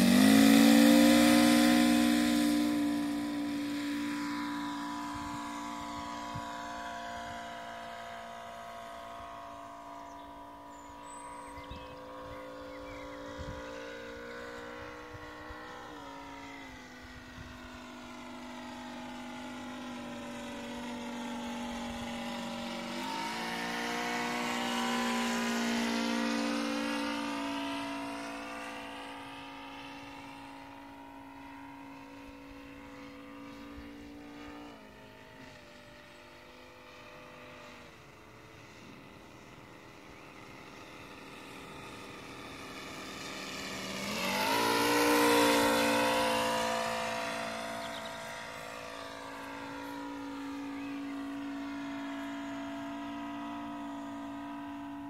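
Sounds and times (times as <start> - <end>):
model plane engine drone: 0.0 - 55.0.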